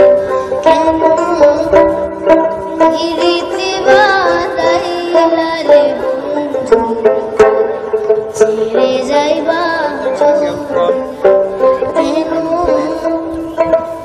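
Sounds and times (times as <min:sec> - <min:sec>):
melody over stacked tones: 0:00.0 - 0:14.0.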